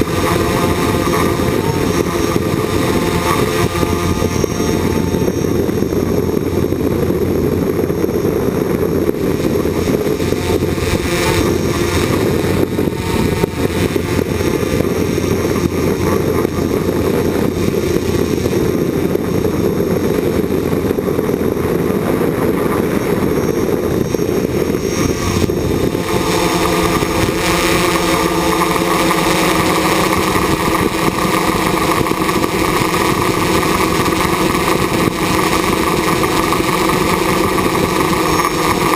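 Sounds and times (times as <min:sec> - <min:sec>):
drone motors and propellers buzzing: 0:00.0 - 0:38.9.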